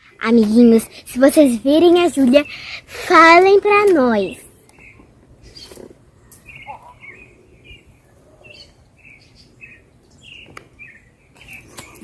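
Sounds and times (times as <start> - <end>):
birds chirping: 1.7 - 12.0.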